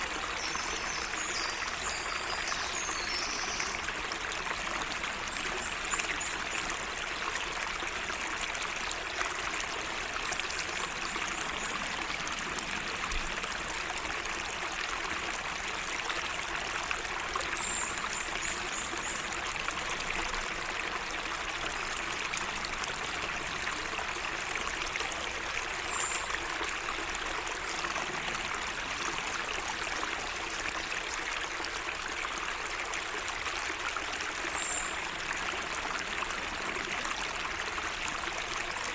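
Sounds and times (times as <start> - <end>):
water trickling and flowing: 0.0 - 38.9.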